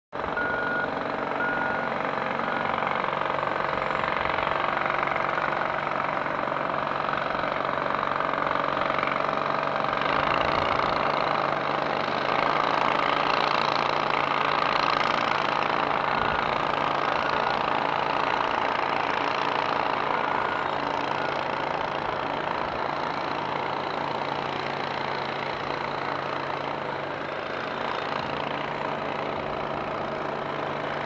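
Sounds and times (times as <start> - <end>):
heavy diesel engine droning: 0.1 - 31.0.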